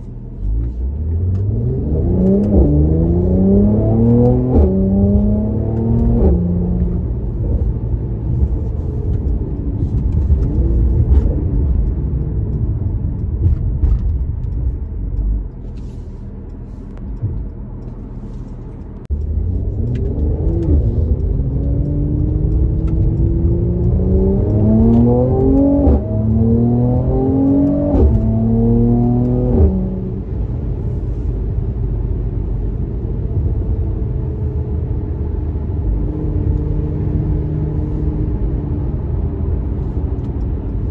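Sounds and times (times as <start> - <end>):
car engine and exhaust accelerating: 0.0 - 40.9.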